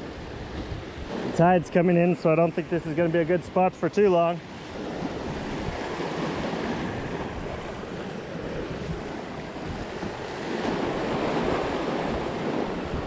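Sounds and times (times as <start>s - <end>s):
wind buffeting microphone: 0.0s - 3.6s, 4.4s - 13.0s.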